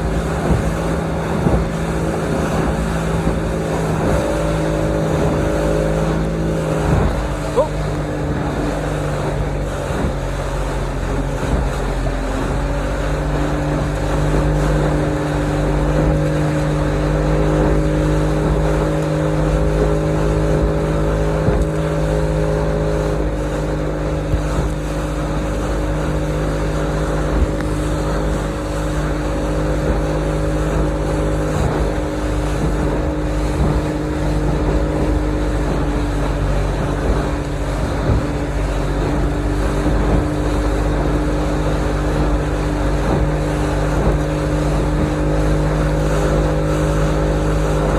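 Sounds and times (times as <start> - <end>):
motorboat engine hum: 0.0 - 47.9
water noise: 0.0 - 47.9
wind noise: 0.0 - 47.9.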